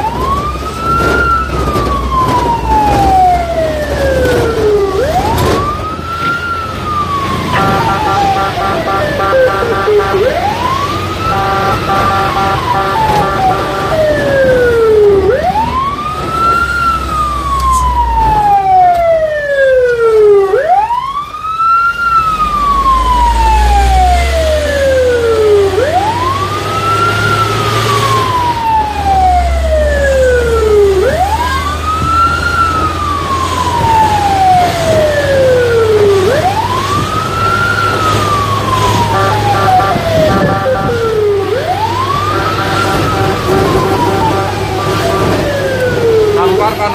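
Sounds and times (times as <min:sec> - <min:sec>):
fire truck siren wailing: 0:00.0 - 0:46.9.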